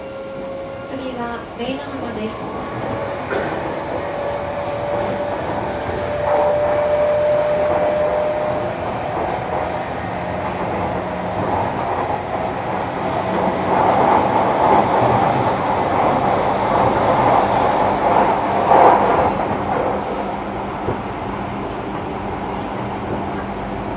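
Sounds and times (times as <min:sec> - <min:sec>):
train wheels on rails: 0:00.0 - 0:23.9.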